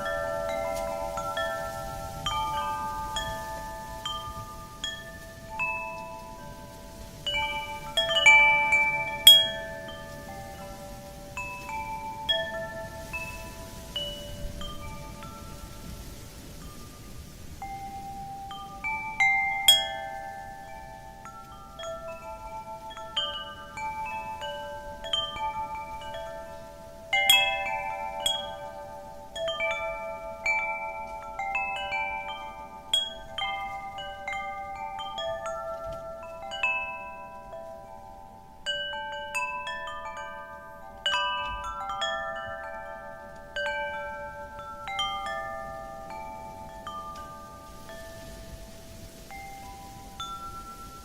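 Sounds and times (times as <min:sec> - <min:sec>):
wind chimes ringing: 0:00.0 - 0:51.0.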